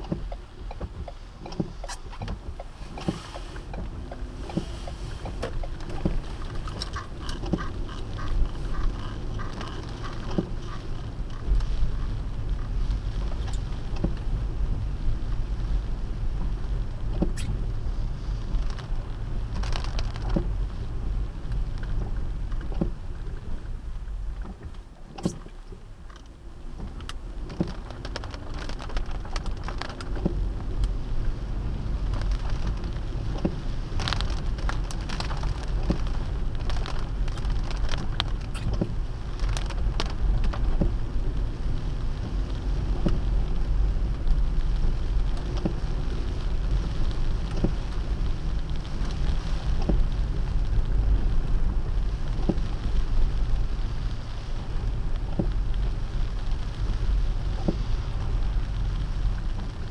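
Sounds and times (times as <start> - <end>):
raindrop clicks: 0.0 - 17.8, 18.5 - 23.7, 24.4 - 59.9
car driving on wet road: 0.0 - 59.9
rain pattering on a car: 0.0 - 59.9.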